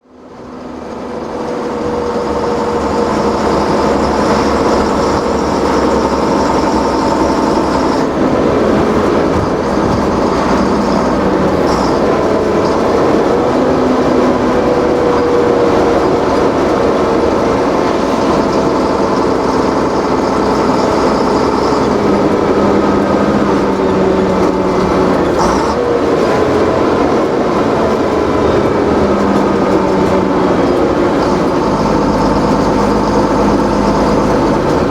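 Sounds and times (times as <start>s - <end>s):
lorry engines running: 0.0s - 34.9s.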